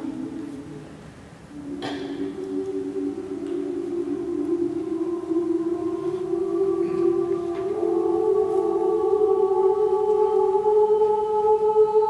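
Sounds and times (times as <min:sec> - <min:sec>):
women's choir singing: 0:00.0 - 0:12.0.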